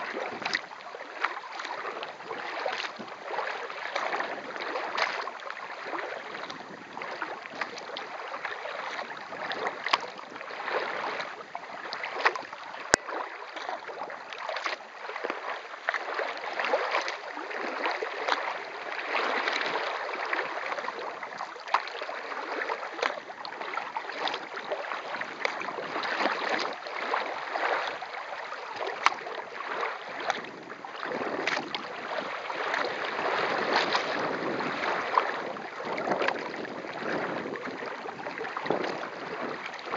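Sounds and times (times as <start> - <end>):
water splashing along kayak hull: 0.0 - 39.9.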